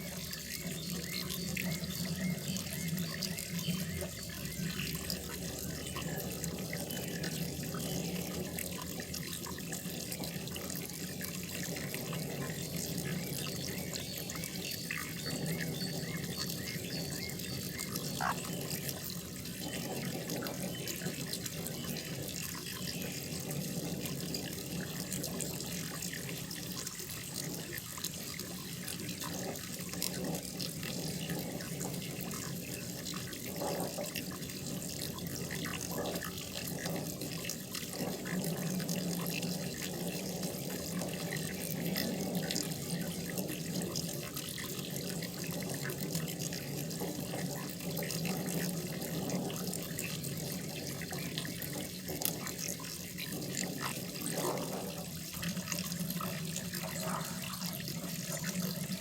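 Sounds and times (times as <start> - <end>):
water splashing into pond: 0.0 - 59.0.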